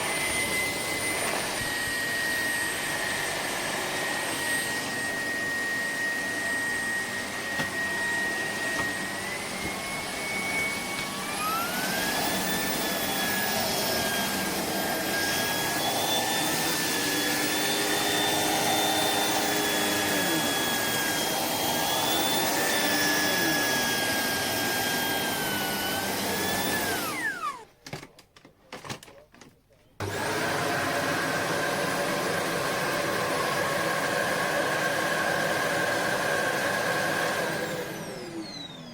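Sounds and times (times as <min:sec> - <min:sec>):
vacuum motor whine: 0:00.0 - 0:27.6, 0:30.0 - 0:38.9.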